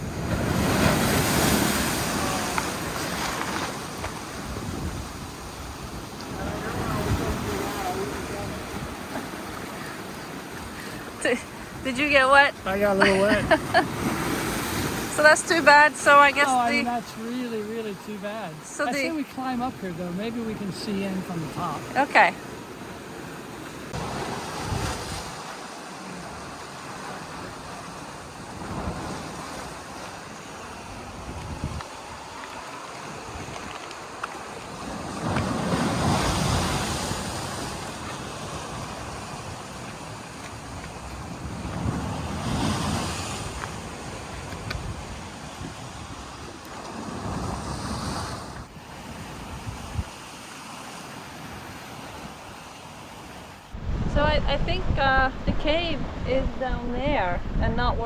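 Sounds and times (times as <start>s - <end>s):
wind buffeting microphone: 0.0s - 16.9s, 22.8s - 25.5s, 26.2s - 58.0s
surf rushing: 0.0s - 58.0s.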